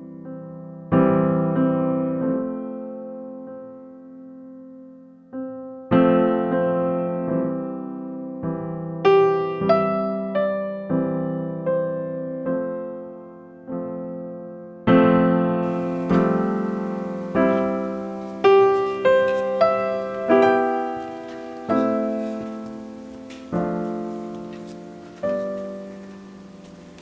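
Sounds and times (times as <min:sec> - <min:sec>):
slow solo piano chords: 0:00.0 - 0:27.0.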